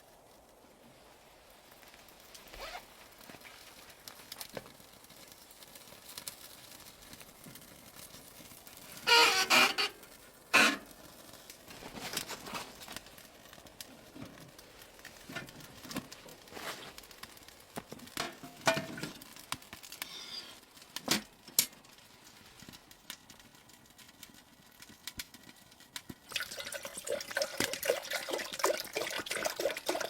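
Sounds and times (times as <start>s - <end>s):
clicks and rustles of handling: 1.8s - 26.2s.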